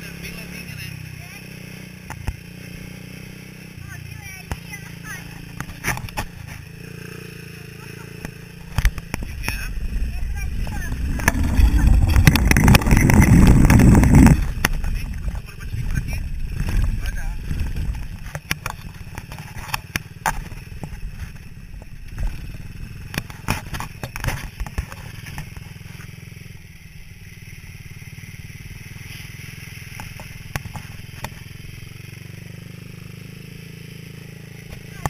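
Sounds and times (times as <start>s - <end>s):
buggy engine humming: 0.0s - 35.0s.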